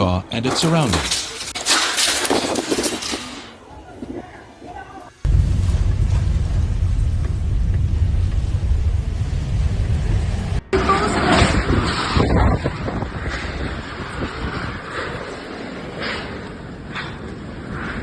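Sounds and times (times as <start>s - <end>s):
gusty hissing wind: 0.0s - 18.0s
wind buffeting microphone: 0.0s - 18.0s.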